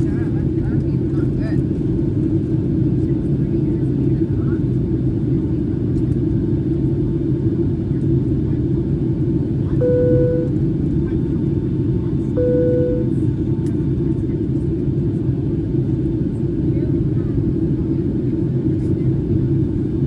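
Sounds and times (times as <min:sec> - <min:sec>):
aircraft engines in cabin: 0:00.0 - 0:20.0.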